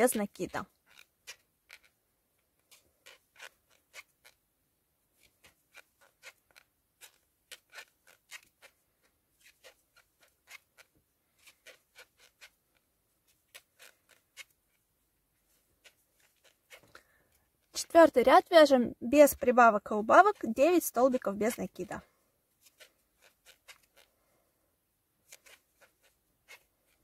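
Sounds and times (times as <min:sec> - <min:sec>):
crochet hook clicks and scratches: 0:00.0 - 0:04.4, 0:05.1 - 0:18.1, 0:19.2 - 0:22.0, 0:22.6 - 0:24.2, 0:25.2 - 0:27.0.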